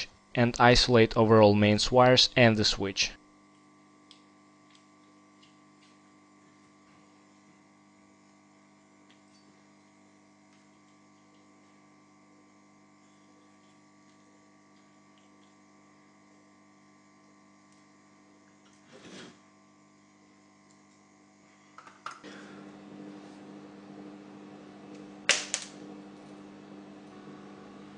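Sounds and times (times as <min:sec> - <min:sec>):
faint electrical hum: 0:00.0 - 0:27.9.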